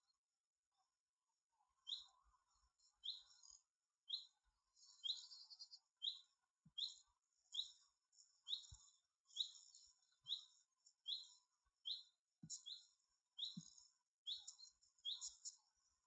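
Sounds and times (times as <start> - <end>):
bird chirping: 1.8 - 2.2, 2.8 - 15.8.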